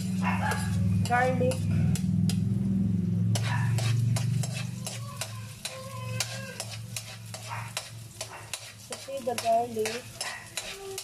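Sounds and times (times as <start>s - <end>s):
metal ladle scraping a wok: 0.0s - 2.4s, 3.3s - 11.0s
garlic sizzling in hot oil: 0.0s - 11.0s.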